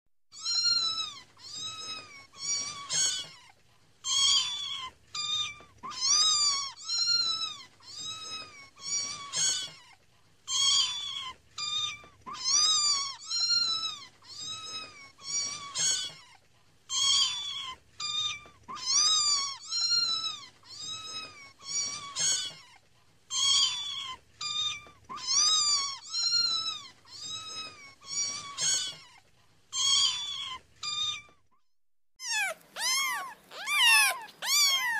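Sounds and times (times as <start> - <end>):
kittens meowing: 0.4 - 31.4, 32.2 - 34.9.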